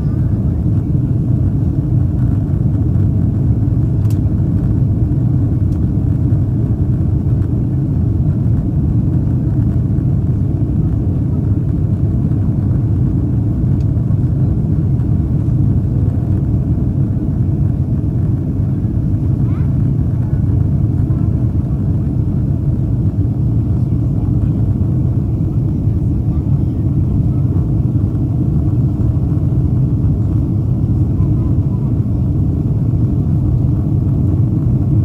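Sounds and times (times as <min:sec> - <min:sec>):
aircraft cabin engine rumble: 0:00.0 - 0:35.0.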